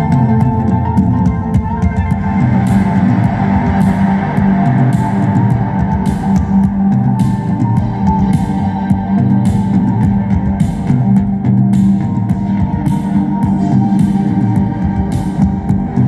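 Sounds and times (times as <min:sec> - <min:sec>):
low synth notes: 0:00.0 - 0:16.0
steady drum beat: 0:00.0 - 0:16.0.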